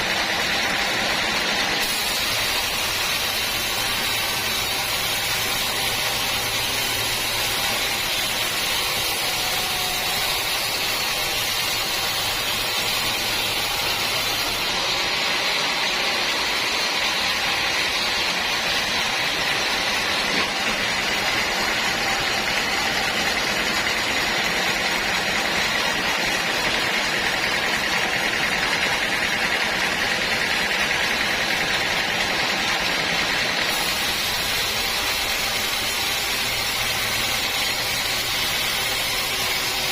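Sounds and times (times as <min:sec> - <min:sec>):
sawmill saw whirring: 0:00.0 - 0:39.9.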